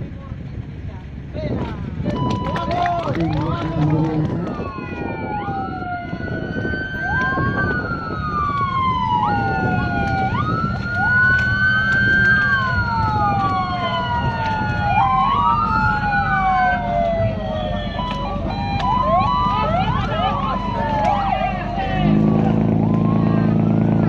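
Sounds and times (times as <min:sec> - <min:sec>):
low rumble: 0:00.0 - 0:24.0
sirens wailing: 0:02.0 - 0:24.0.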